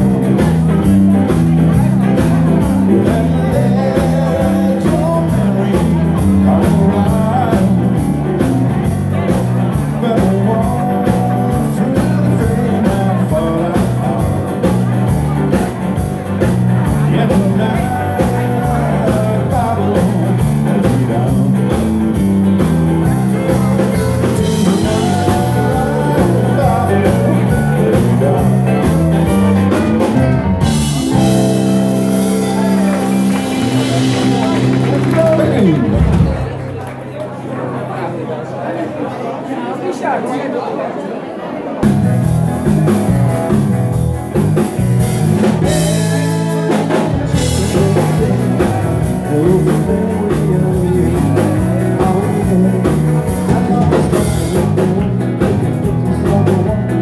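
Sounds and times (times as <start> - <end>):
person singing: 0.0 - 22.0, 23.0 - 36.0, 45.4 - 57.0
live rock and roll band: 0.0 - 37.5, 41.8 - 57.0.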